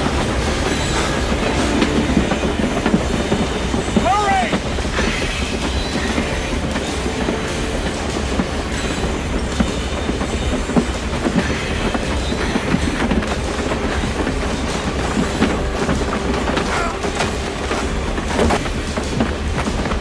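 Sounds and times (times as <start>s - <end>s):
train rumbling along track: 0.0s - 20.0s
wheels clicking on rails: 0.0s - 20.0s.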